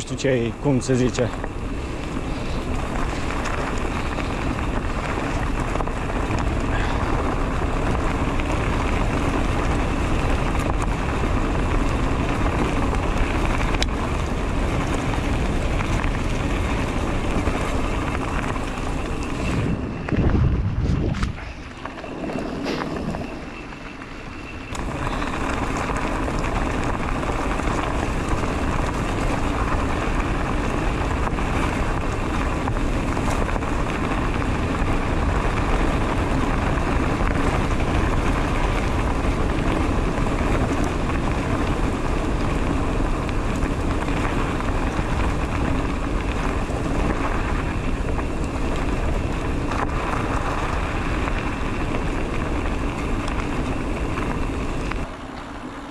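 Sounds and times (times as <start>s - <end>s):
wind rushing on microphone: 0.0s - 55.9s.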